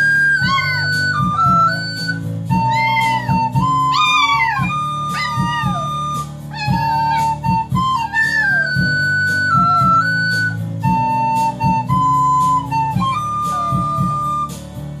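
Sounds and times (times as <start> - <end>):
high clear instrumental melody: 0.0 - 15.0
rhythmic accompaniment: 0.0 - 15.0.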